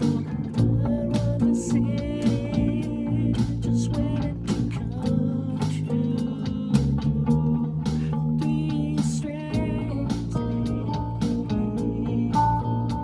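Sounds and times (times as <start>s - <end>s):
guitar-led song with beat: 0.0s - 13.0s.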